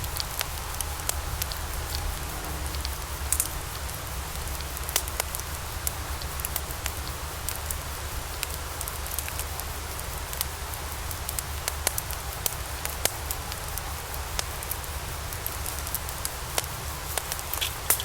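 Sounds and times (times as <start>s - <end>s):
log fire crackling and popping: 0.0s - 18.0s.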